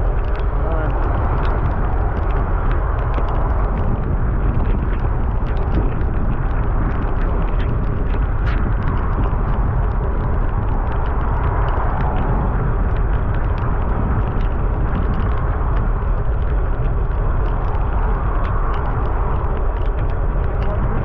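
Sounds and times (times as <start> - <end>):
bicycle road noise: 0.0 - 21.0
small ticks: 0.0 - 21.0
wind buffeting microphone: 0.0 - 21.0.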